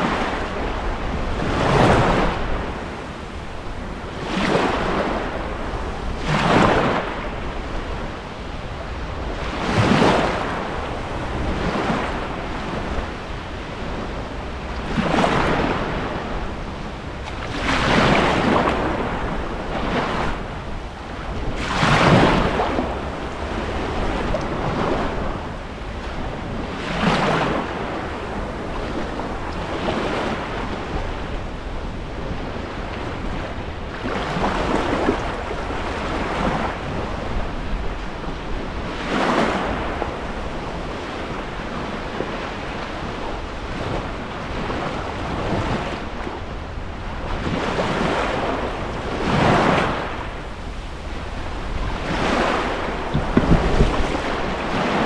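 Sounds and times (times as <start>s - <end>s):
waves breaking on sandy shore: 0.0s - 55.0s
wind rumble on microphone: 0.0s - 55.0s.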